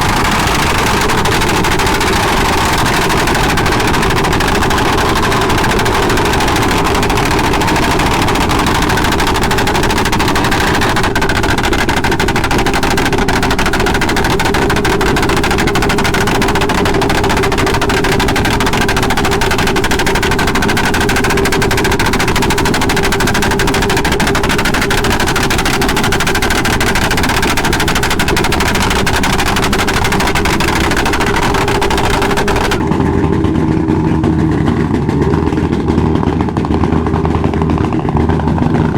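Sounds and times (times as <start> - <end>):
motorcycle engines running: 0.0 - 38.9.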